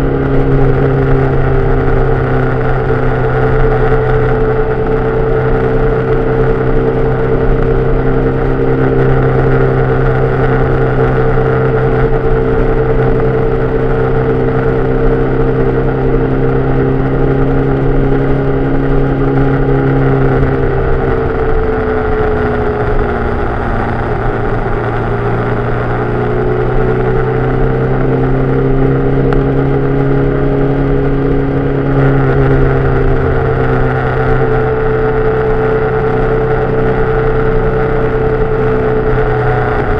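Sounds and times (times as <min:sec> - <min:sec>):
road noise: 0:00.0 - 0:39.9
vehicle engine drone: 0:00.0 - 0:39.9
wind noise: 0:00.0 - 0:39.9.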